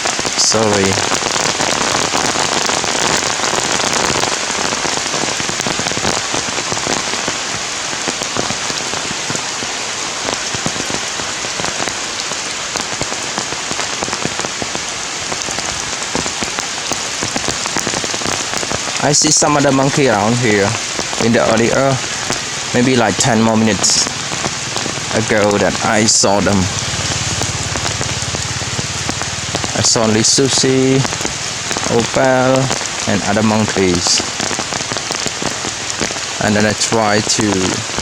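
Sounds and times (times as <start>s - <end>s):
heavy rain: 0.0s - 38.0s
raindrops striking an umbrella: 0.0s - 38.0s.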